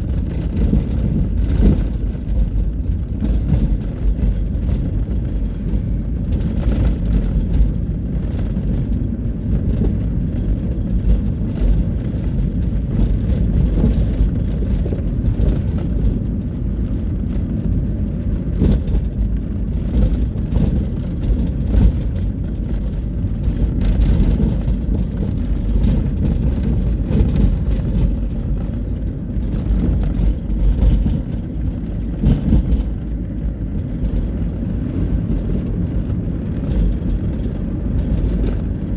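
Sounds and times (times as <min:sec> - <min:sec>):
heavy trucks: 0:00.0 - 0:38.9
highway traffic rumble: 0:00.0 - 0:38.9.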